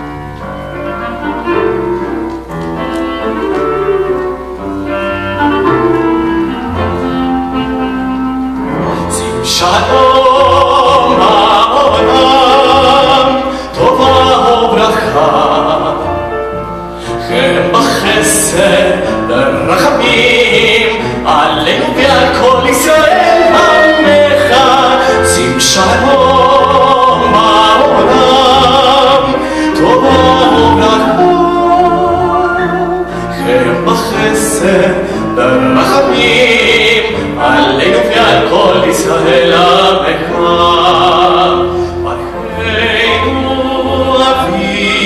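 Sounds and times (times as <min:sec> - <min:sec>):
clarinet: 0:00.0 - 0:45.0
double bass: 0:00.0 - 0:45.0
piano: 0:00.0 - 0:45.0.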